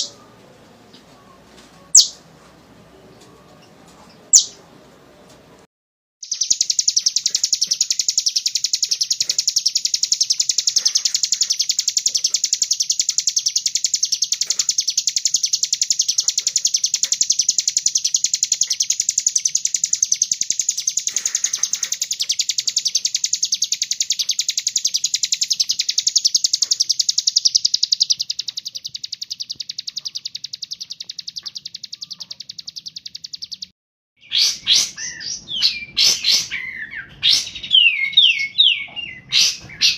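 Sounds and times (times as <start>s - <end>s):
bird high-pitched trill: 1.9s - 2.2s, 6.2s - 33.7s, 34.3s - 39.9s.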